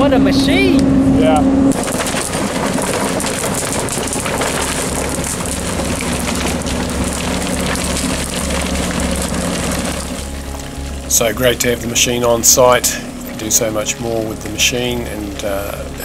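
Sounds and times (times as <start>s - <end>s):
diesel engine running: 0.0s - 16.0s
wood cracking and breaking: 1.7s - 15.8s.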